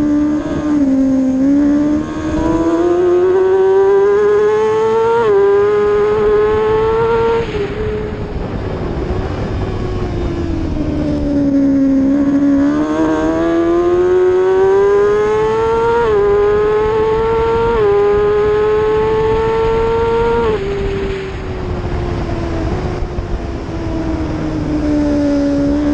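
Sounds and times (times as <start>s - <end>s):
motorcycle engine accelerating: 0.0s - 25.9s
wind rushing: 0.0s - 25.9s.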